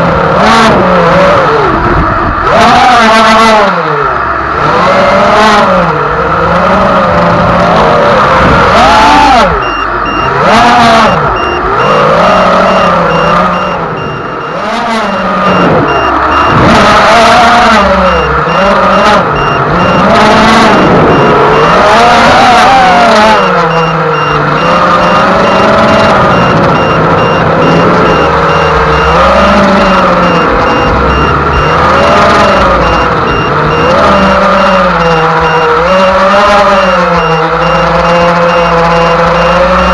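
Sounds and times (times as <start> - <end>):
model boat motor running hard: 0.0 - 39.9.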